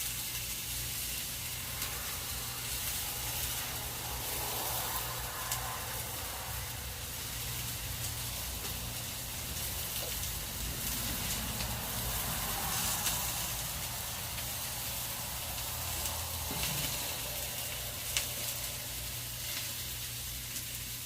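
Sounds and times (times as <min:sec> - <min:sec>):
chicken frying in a pan: 0:00.0 - 0:21.0
low hum: 0:00.5 - 0:20.1.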